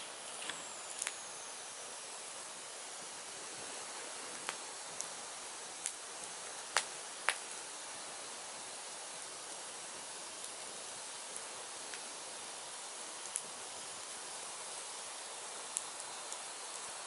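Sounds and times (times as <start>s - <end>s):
crackling pops of fire: 0.0s - 17.0s
firewood burning with hiss: 0.0s - 17.0s.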